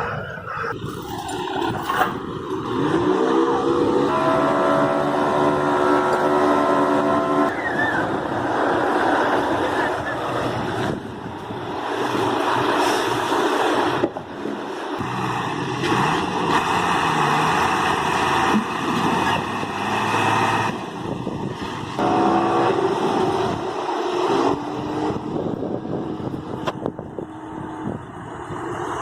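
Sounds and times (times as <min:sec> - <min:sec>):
vehicle engine noise: 0:00.0 - 0:29.0.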